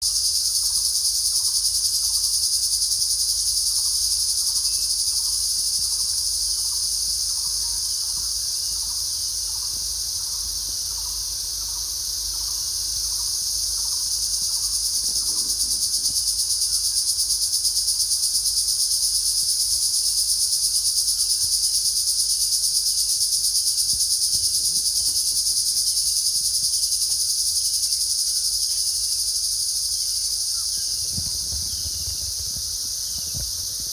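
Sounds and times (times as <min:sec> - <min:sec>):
high-pitched insect trill: 0:00.0 - 0:33.9
lower insect chirp: 0:00.0 - 0:33.9.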